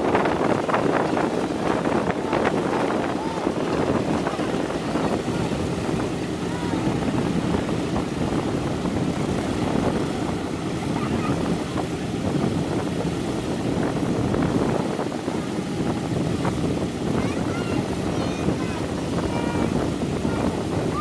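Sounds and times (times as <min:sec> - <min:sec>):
piston aircraft engines rumbling: 0:00.0 - 0:21.0.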